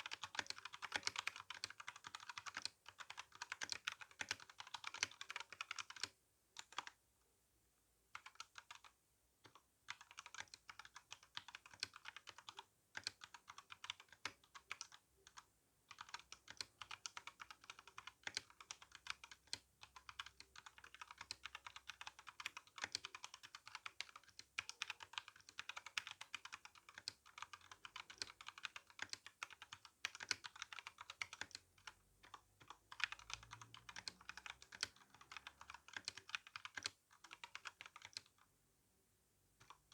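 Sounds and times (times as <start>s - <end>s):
mechanical keyboard typing: 0.0s - 7.0s, 8.2s - 38.5s, 39.6s - 39.9s.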